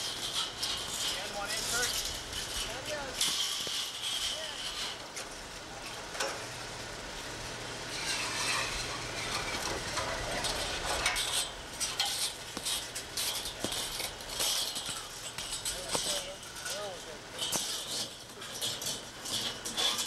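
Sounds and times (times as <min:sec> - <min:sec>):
cables scraping on roof shingles: 0:00.0 - 0:20.0.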